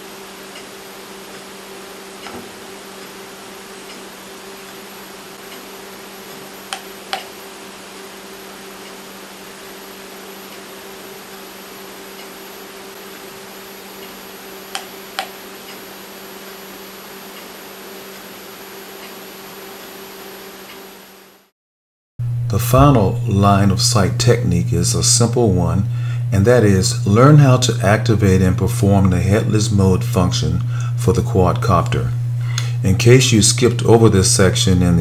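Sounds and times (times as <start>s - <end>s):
low hum and hiss: 0.0s - 21.5s, 22.2s - 35.0s.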